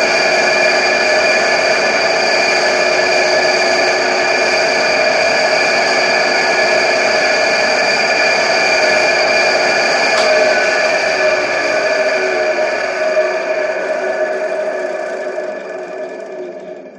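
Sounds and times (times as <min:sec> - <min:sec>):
lathe running with whine: 0:00.0 - 0:16.9.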